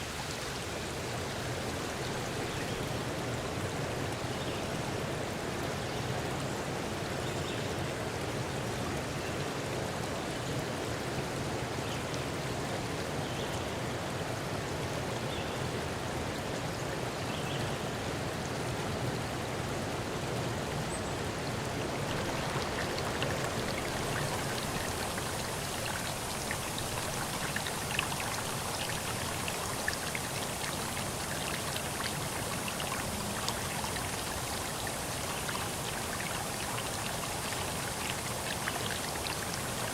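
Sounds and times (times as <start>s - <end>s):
rushing water stream: 0.0s - 39.9s.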